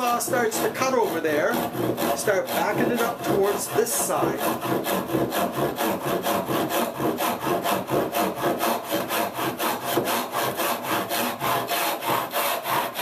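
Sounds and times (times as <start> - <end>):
handsaw rasping through wood: 0.0 - 13.0.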